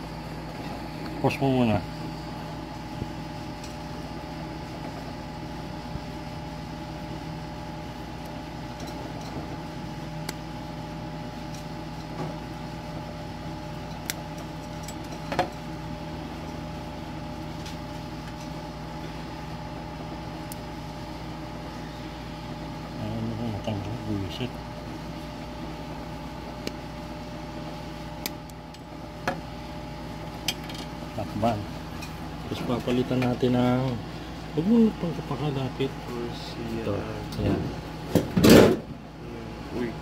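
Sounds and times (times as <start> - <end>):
machine hum: 0.0 - 40.0.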